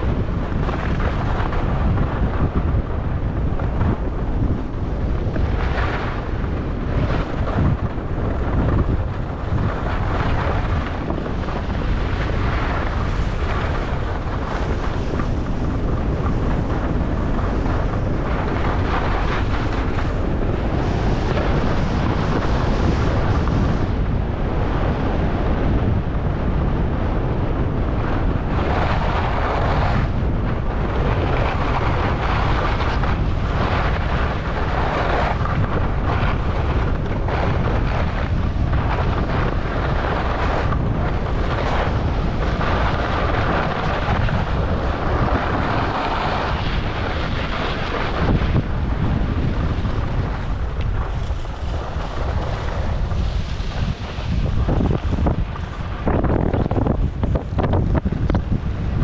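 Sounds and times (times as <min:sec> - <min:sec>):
skis scraping on snow: 0:00.0 - 0:23.9, 0:26.5 - 0:59.0
wind buffeting microphone: 0:00.0 - 0:59.0.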